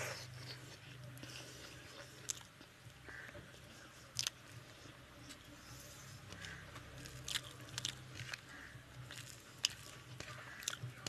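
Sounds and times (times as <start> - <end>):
wet chewing: 0.0 - 5.4, 6.2 - 11.0.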